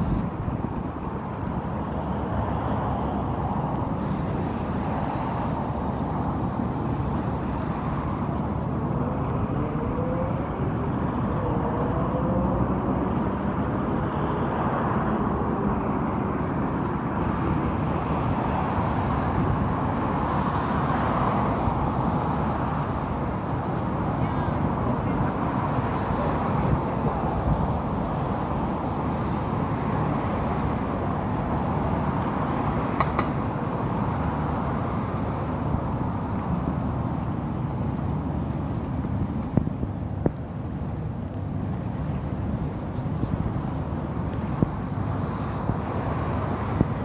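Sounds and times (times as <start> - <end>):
outdoor background rumble: 0.0 - 47.0.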